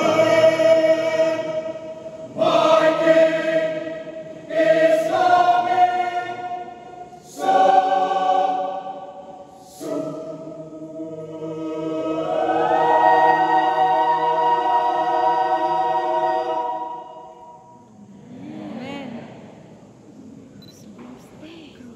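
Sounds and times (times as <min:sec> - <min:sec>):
choir singing sustained chords: 0:00.0 - 0:20.7.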